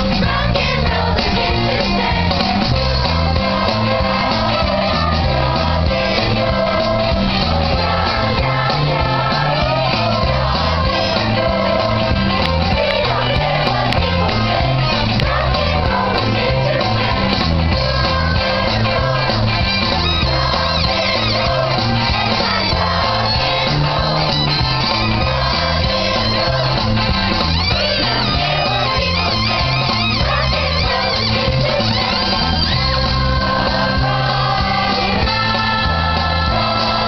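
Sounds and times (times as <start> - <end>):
children's chorus singing: 0.0 - 37.0
instrumental accompaniment: 0.0 - 37.0.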